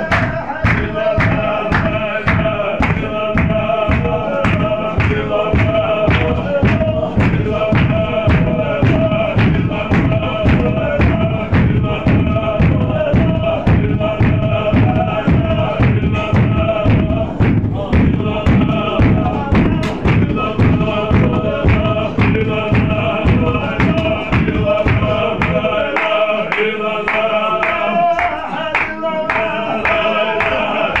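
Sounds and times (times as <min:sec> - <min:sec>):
men chanting in unison: 0:00.0 - 0:31.0
stamping feet: 0:00.1 - 0:25.9.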